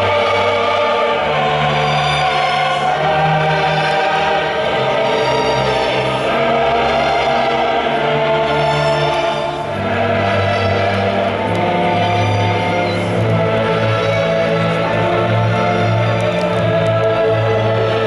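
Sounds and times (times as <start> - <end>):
choir singing: 0.0 - 18.0
orchestral accompaniment: 0.0 - 18.0.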